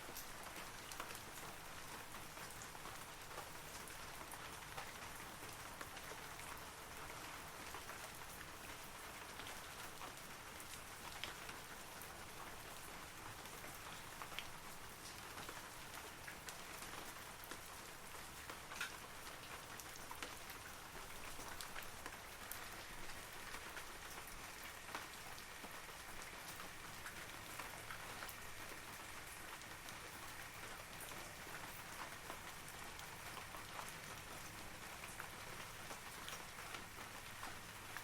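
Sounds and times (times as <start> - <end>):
rain on trees and foliage: 0.0 - 38.0.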